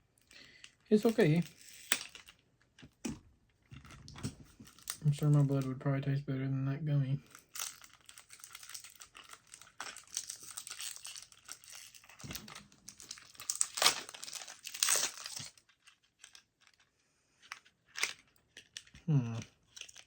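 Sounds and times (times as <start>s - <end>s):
snack wrapper crinkling: 0.2s - 5.7s, 7.2s - 20.0s.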